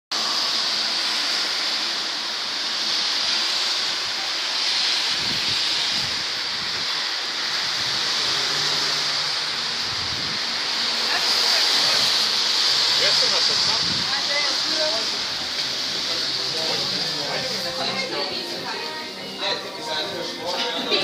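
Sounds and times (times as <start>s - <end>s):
outdoor hiss on wet street: 0.1s - 21.0s.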